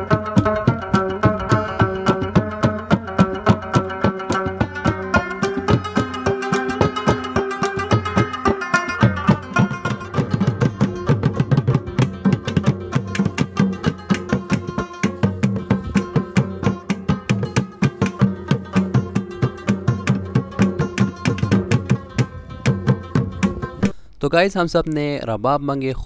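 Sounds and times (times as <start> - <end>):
barrel drum beating: 0.0 - 24.0
clay pot drum beating: 0.0 - 24.0
plucked lute melody: 0.0 - 24.0.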